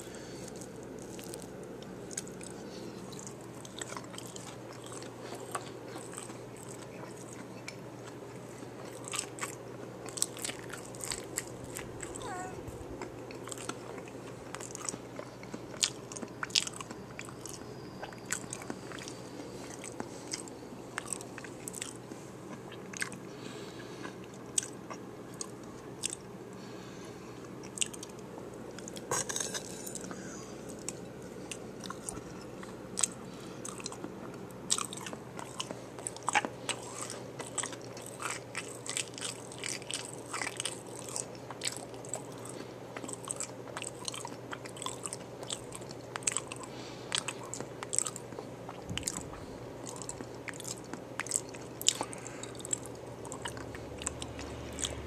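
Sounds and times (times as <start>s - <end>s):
crunchy chewing: 0.0s - 55.0s
steady low hum: 0.0s - 55.0s.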